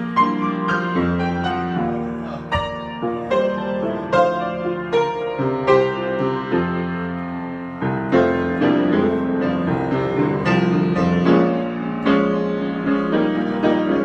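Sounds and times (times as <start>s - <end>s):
solo piano improvisation: 0.0s - 14.0s.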